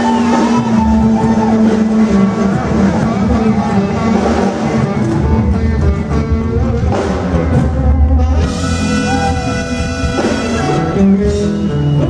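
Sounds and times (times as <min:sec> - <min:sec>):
live band playing loud music: 0:00.0 - 0:12.0.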